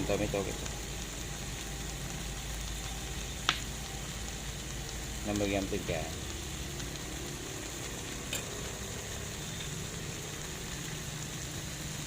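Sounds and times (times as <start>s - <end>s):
chicken sizzling in a frying pan: 0.0s - 12.0s
low steady hum: 0.0s - 12.0s.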